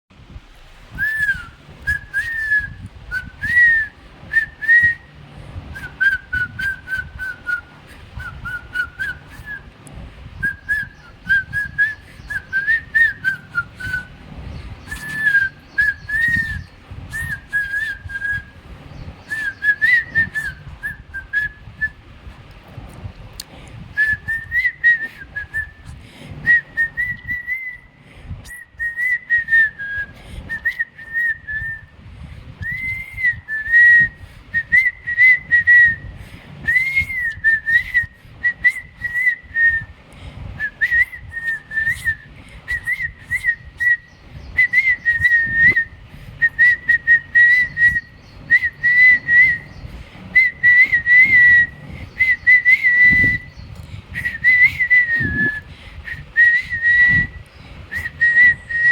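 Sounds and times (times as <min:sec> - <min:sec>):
person whistling a tune: 0:00.9 - 0:05.1, 0:05.7 - 0:09.7, 0:10.4 - 0:14.1, 0:14.8 - 0:18.5, 0:19.2 - 0:22.0, 0:24.0 - 0:27.9, 0:28.5 - 0:31.9, 0:32.6 - 0:36.0, 0:36.6 - 0:39.9, 0:40.6 - 0:49.8, 0:50.4 - 0:58.9.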